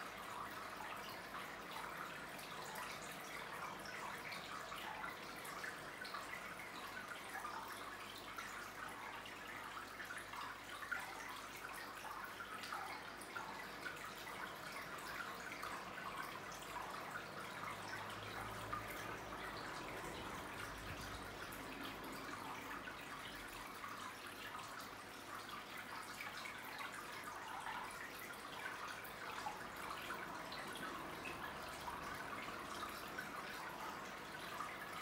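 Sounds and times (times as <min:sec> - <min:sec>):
water trickling into tank: 0:00.0 - 0:35.0.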